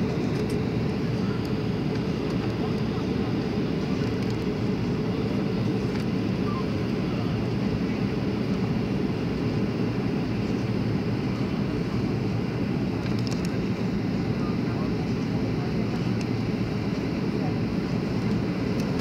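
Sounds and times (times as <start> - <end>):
jet airliner cabin noise: 0.0 - 19.0.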